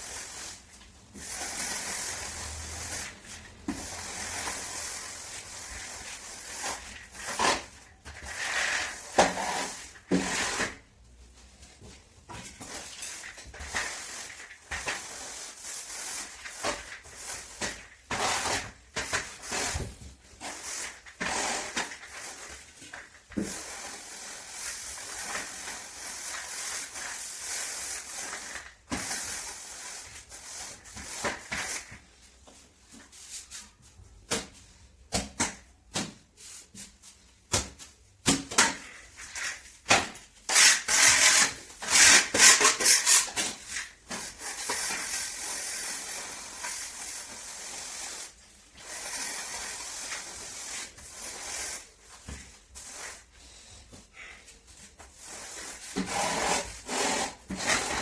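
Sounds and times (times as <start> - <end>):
scraping strokes on hard surface: 0.0 - 10.9, 12.6 - 34.1, 40.4 - 58.0.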